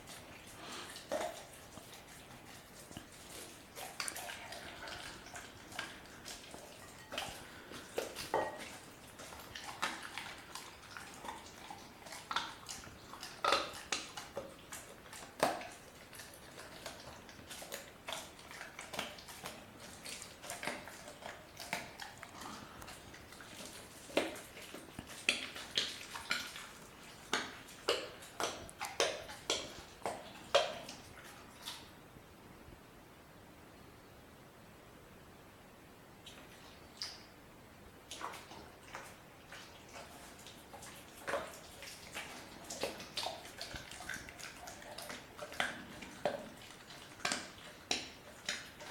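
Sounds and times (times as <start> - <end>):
puppy chewing bone: 0.0 - 31.9, 38.0 - 48.9.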